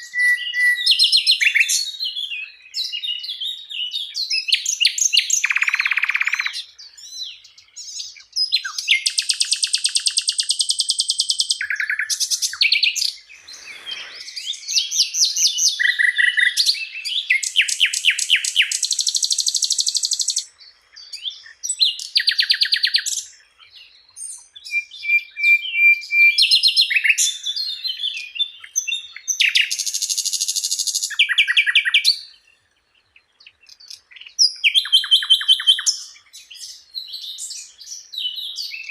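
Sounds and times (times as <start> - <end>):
songbird trilling and chirping: 0.0 - 38.9.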